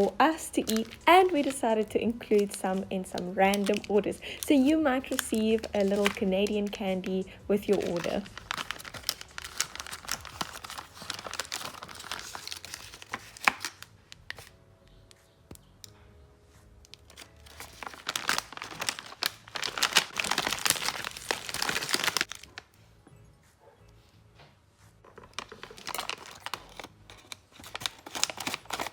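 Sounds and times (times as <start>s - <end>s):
candy wrappers crinkling and tearing: 0.0s - 14.6s, 16.9s - 22.7s, 25.1s - 28.9s.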